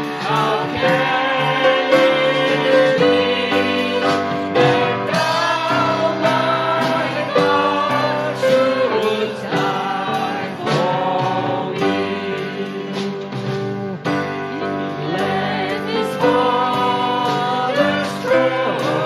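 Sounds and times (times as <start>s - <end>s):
drums: 0.0s - 19.0s
group singing: 0.0s - 19.0s
piano: 0.0s - 19.0s.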